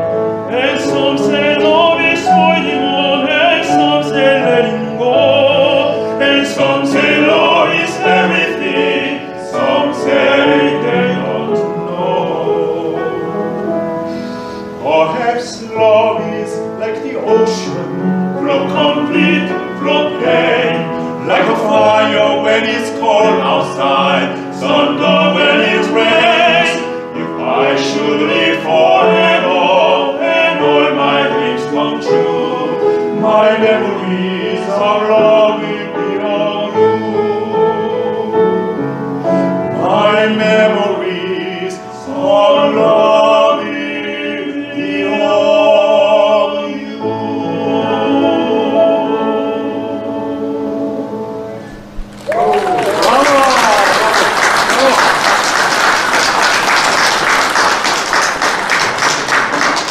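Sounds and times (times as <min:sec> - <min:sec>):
opera-style singing: 0:00.0 - 0:51.7
piano accompaniment: 0:00.0 - 0:59.9.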